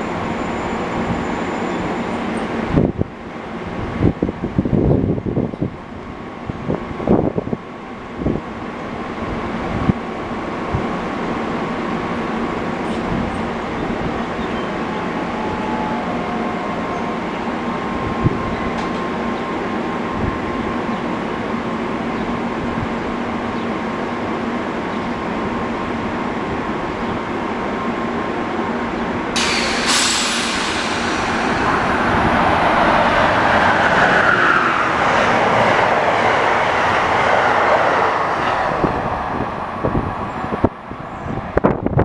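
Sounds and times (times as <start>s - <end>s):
train equipment humming: 0.0s - 42.0s.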